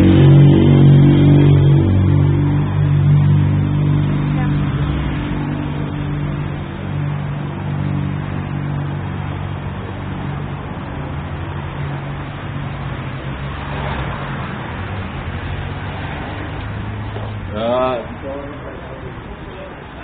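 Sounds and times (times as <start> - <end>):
street noise: 0.0 - 20.0
vehicle engine hum: 0.0 - 20.0.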